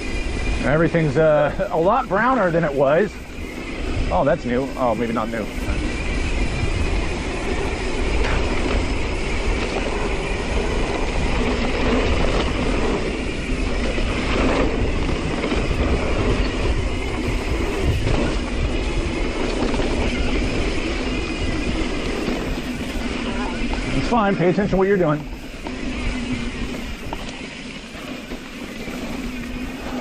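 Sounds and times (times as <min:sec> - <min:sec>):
bike rattling: 0:00.0 - 0:30.0
tyre roar on dirt: 0:00.0 - 0:30.0
wind rumbling on microphone: 0:00.0 - 0:30.0.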